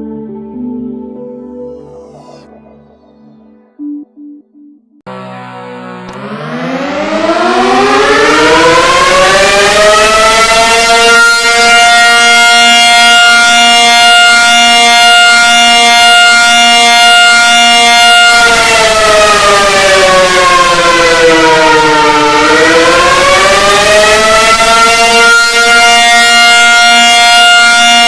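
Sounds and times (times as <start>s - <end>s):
buzzy alarm siren: 5.1s - 28.0s.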